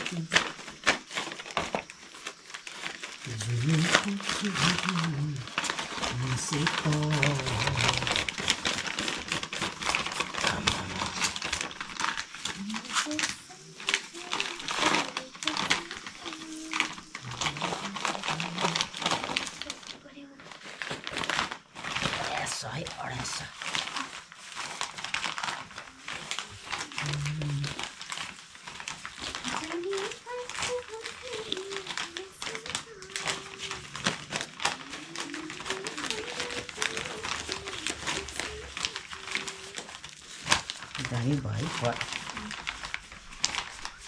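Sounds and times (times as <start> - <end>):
plastic pots crinkling: 0.0 - 44.0.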